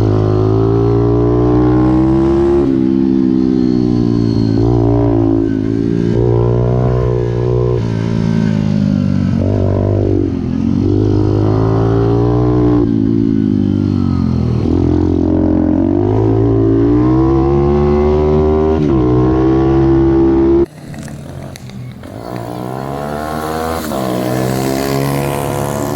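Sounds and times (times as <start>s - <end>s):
small motorbike engine revving: 0.0s - 25.9s.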